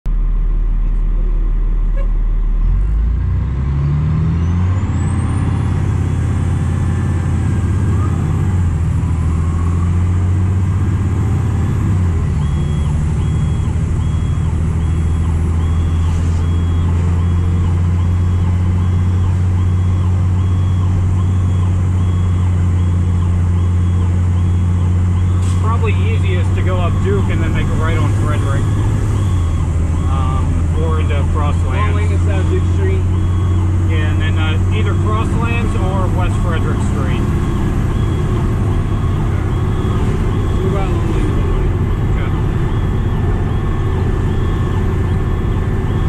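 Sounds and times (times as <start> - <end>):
diesel truck engine accelerating: 0.1 - 46.0.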